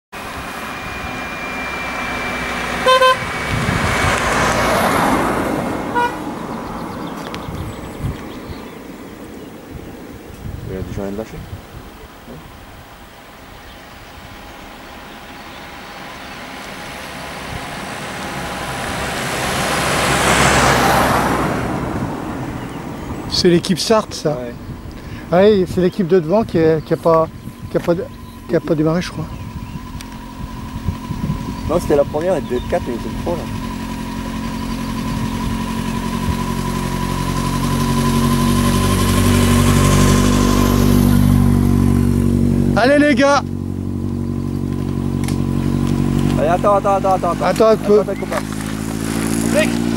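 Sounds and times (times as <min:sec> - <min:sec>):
vehicle approaching on road: 0:00.1 - 0:49.9
motorcycle engine passing by: 0:00.2 - 0:08.7, 0:15.0 - 0:23.2, 0:26.3 - 0:49.9.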